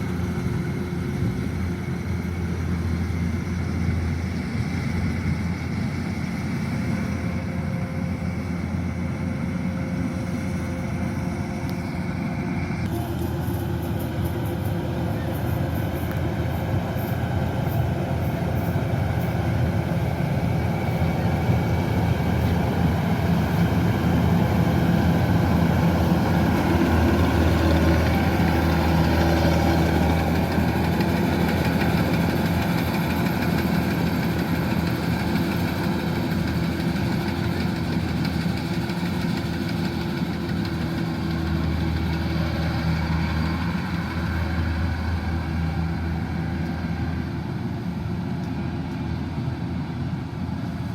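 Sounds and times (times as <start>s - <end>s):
combine harvester engine and machinery: 0.0s - 50.9s.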